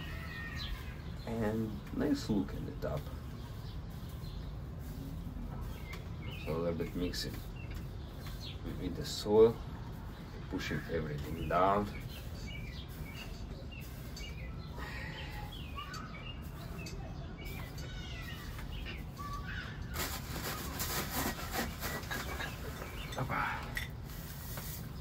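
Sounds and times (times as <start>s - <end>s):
small birds chirping: 0.0s - 25.0s
soil rustling and scraping: 0.0s - 25.0s.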